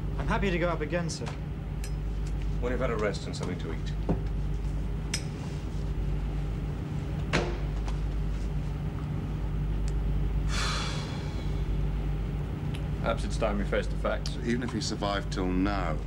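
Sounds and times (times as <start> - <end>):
ship machinery drone: 0.0 - 16.0.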